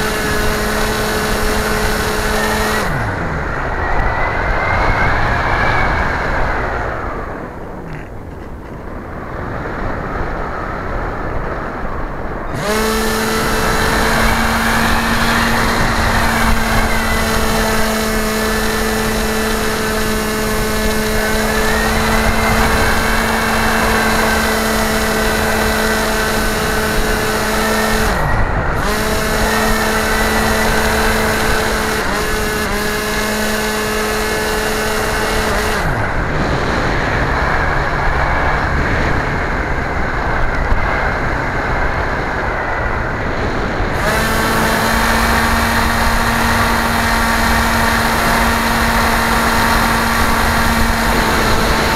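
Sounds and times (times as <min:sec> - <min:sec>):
model aircraft motor humming: 0:00.0 - 0:04.2, 0:12.5 - 0:51.9
wind rushing over microphone: 0:00.0 - 0:51.9.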